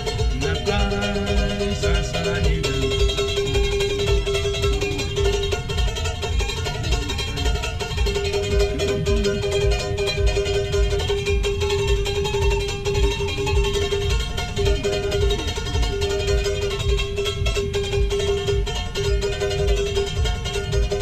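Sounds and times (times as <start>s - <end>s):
steady held note: 0.0s - 21.0s
ukulele strumming: 0.0s - 21.0s.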